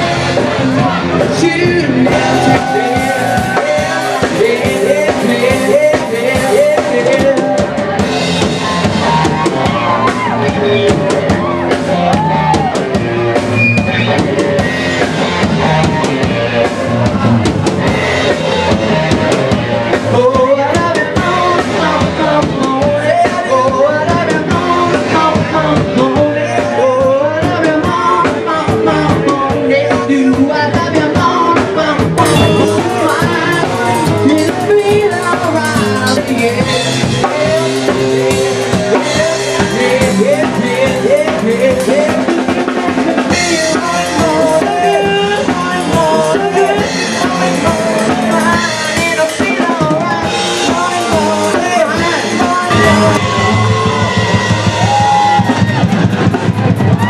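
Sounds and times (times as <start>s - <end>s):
person singing: 0.0s - 13.0s, 13.8s - 55.8s
drum kit beat: 0.0s - 57.0s
live band music: 0.0s - 57.0s.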